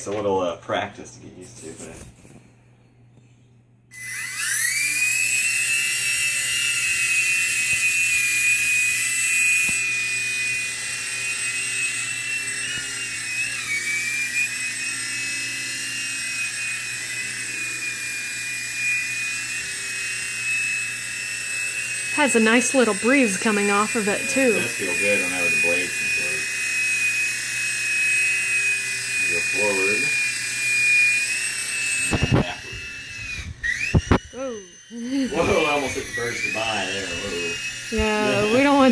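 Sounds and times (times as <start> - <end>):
toy helicopter rotor whine: 3.9 - 38.9.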